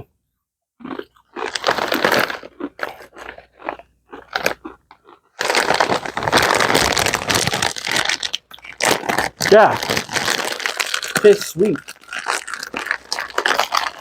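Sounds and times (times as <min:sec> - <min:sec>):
chips being chewed: 0:00.8 - 0:14.0.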